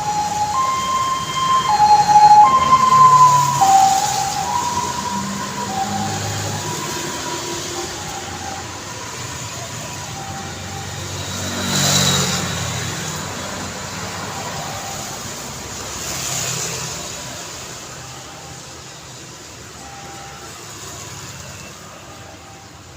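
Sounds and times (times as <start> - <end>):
two-tone siren: 0.0 - 22.9
vehicles passing by: 0.0 - 22.9.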